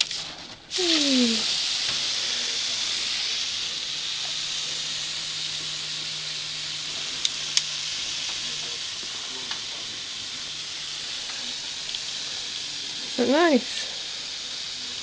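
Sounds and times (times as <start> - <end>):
water mister hissing: 0.0 - 15.0.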